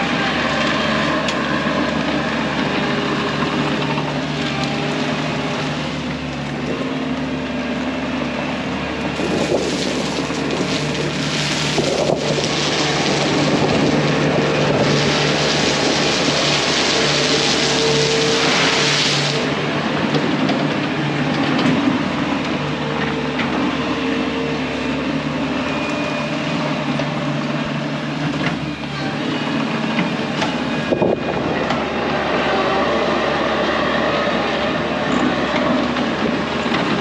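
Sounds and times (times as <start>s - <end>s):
diesel engine running under work: 0.0s - 37.0s.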